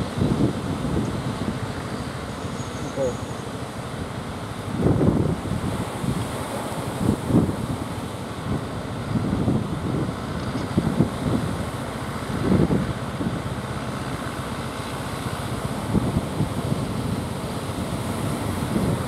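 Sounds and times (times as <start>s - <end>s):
boat engine running: 0.0s - 19.0s
waves breaking: 0.0s - 19.0s
wind gusting on microphone: 0.0s - 19.0s.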